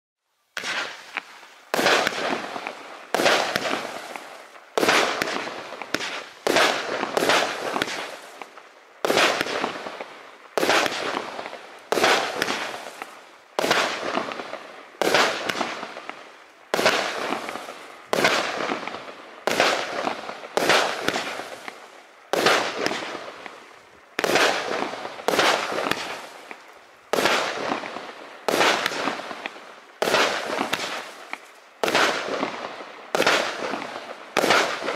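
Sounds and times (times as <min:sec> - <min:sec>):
fireworks bangs: 0:00.6 - 0:34.9.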